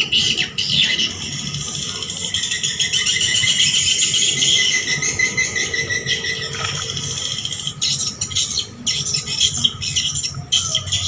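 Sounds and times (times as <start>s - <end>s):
swiftlets twittering: 0.7s - 11.0s.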